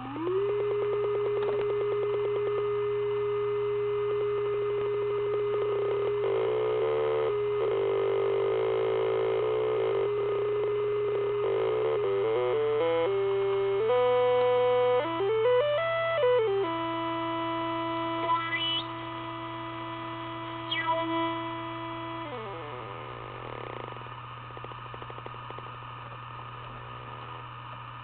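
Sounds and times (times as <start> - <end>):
buzzy electronic synth tone: 0.0 - 23.8.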